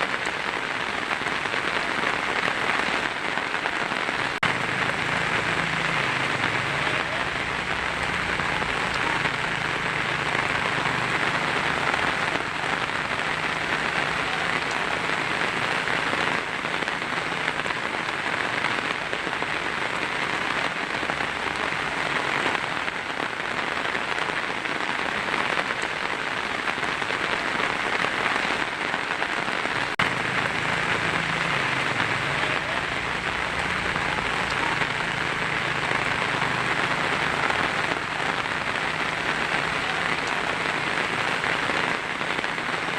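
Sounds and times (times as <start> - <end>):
heavy rain on a tin roof: 0.0 - 42.9.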